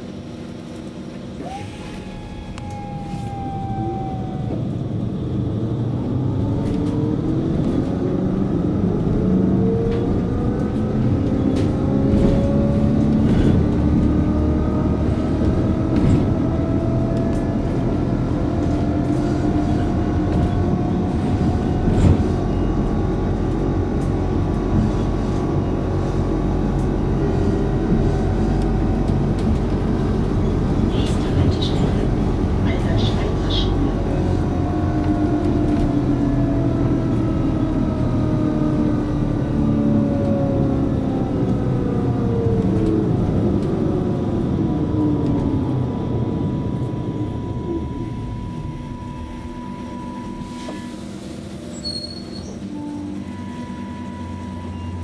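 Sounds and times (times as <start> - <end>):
bus rolling and rattling: 0.0 - 55.0.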